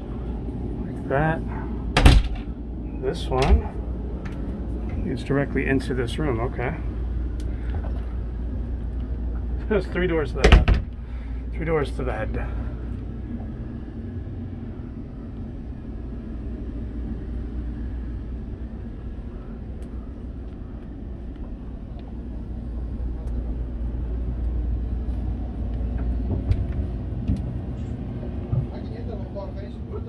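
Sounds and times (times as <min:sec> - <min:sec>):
low machinery rumble: 0:00.0 - 0:30.0.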